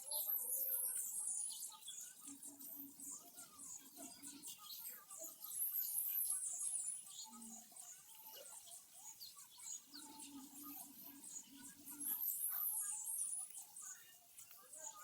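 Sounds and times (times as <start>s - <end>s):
small birds twittering: 0.0s - 15.0s.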